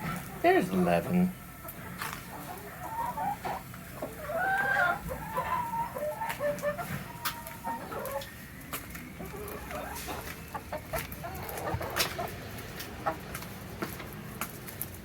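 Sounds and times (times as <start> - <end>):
chickens clucking and calling: 0.0 - 15.0.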